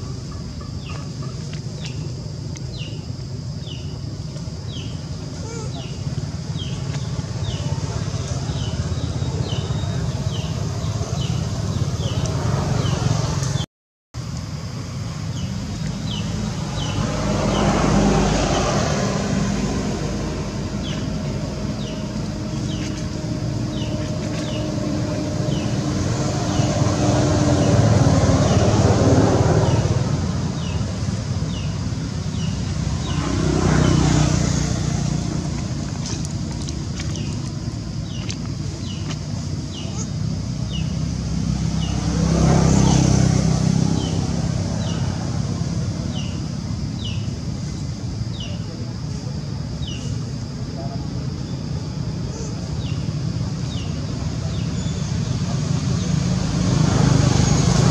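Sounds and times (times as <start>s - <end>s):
motor vehicles rumbling past: 0.0s - 13.7s, 14.6s - 57.9s.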